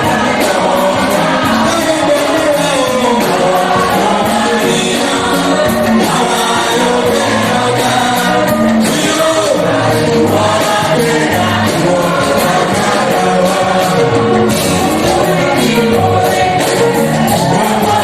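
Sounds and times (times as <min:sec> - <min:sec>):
choir singing gospel music: 0:00.0 - 0:18.0.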